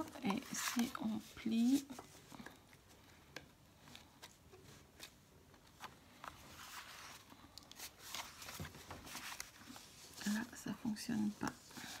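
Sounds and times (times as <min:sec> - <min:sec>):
card rustling: 0:00.0 - 0:12.0.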